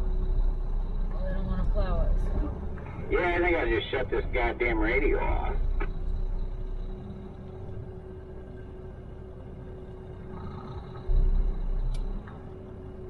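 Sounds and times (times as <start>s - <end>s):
low rumble: 0.0s - 13.0s
truck engine running: 0.0s - 13.0s.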